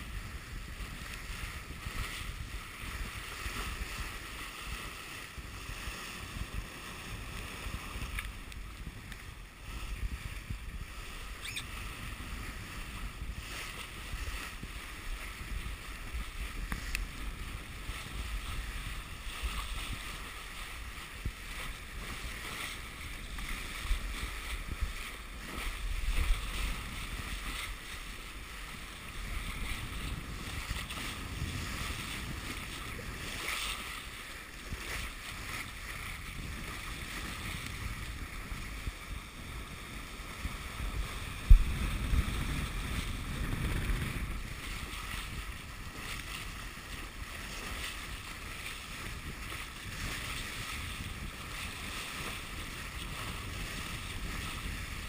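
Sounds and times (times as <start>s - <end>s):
water splashing along boat bow: 0.0s - 55.0s
wind buffeting microphone: 0.0s - 55.0s.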